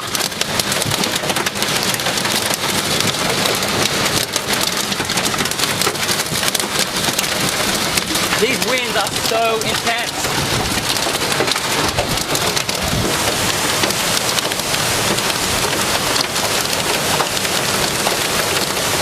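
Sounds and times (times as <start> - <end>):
hail knocking on car: 0.0 - 19.0
heavy rain on a car: 0.0 - 19.0.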